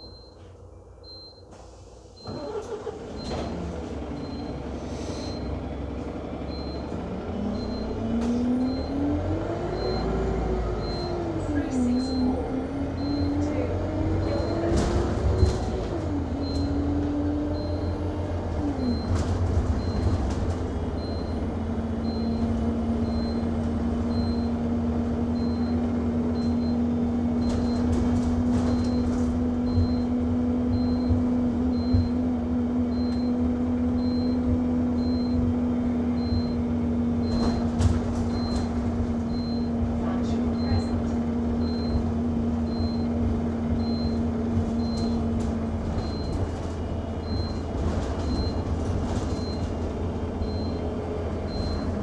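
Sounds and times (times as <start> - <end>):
bus engine hum: 0.0 - 52.0
low road rumble: 0.0 - 52.0.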